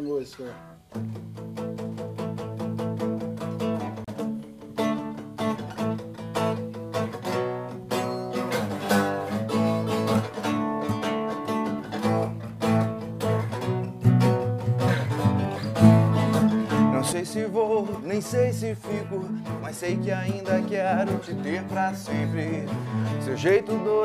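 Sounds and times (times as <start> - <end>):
strummed guitar chords: 0.5 - 24.0.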